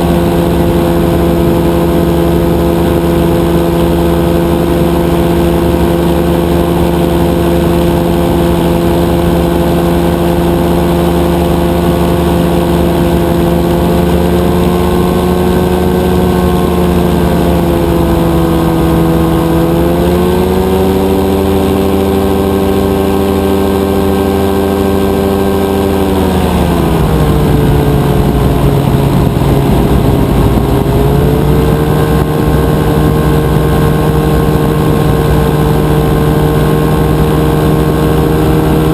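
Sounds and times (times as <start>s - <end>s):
engine and propeller droning: 0.0s - 38.9s.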